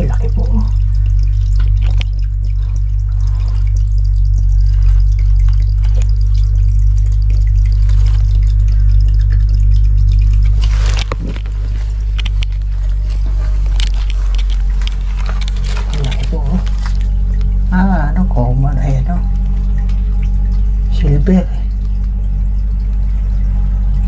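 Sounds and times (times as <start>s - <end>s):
steady low rumble: 0.0s - 24.0s
water dripping and trickling: 0.0s - 24.0s.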